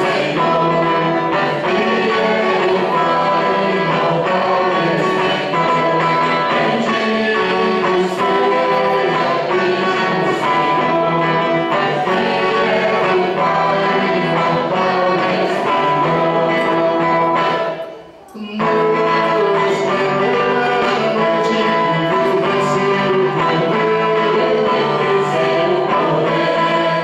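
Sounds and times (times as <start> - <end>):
hymn singing with accompaniment: 0.0 - 27.0.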